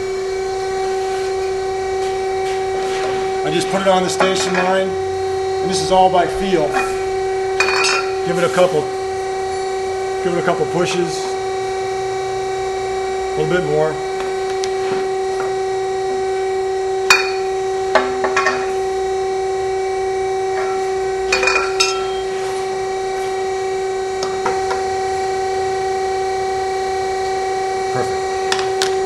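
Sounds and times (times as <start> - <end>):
steady machine hum: 0.0 - 29.0.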